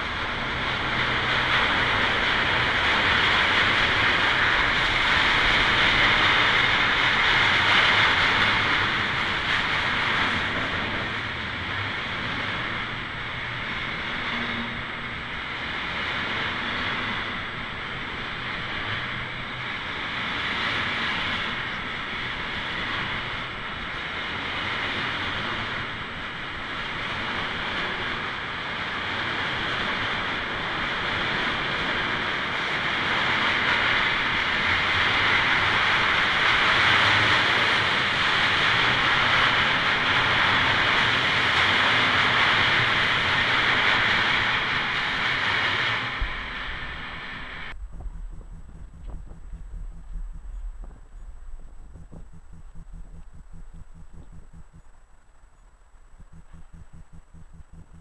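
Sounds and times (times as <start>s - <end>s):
freight train wheels on rails: 0.0s - 54.9s.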